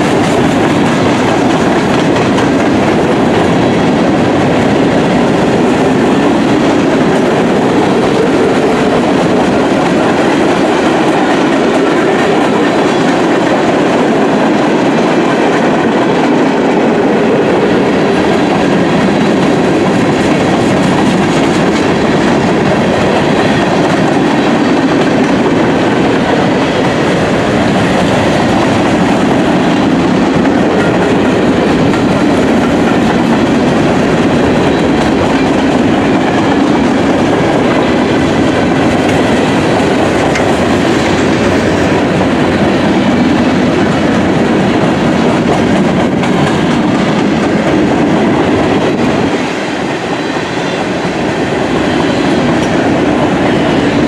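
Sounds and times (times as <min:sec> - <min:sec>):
freight train cars rolling past: 0:00.0 - 0:54.0.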